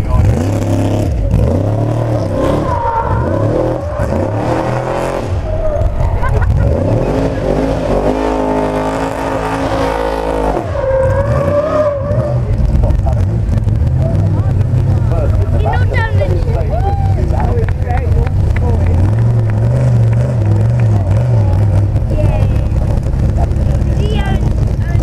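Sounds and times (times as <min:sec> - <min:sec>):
truck engine revving hard: 0:00.0 - 0:25.0.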